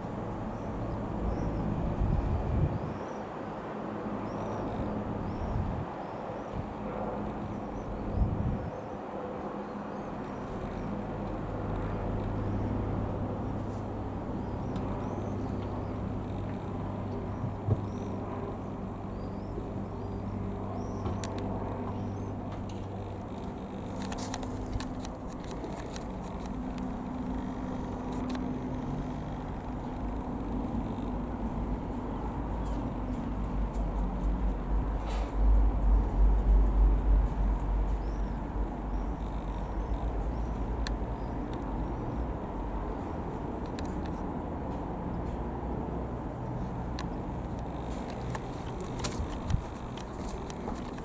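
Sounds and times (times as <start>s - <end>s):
aircraft piston engine drone: 0.0s - 51.0s.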